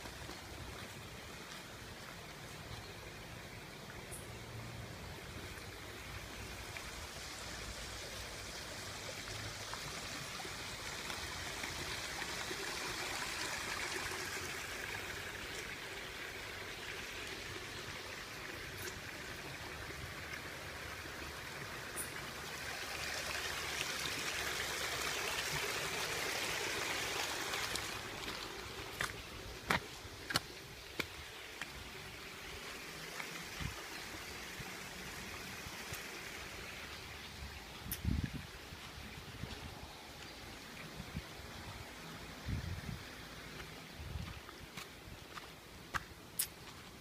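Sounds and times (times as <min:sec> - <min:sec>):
stream water running: 0:00.0 - 0:47.0.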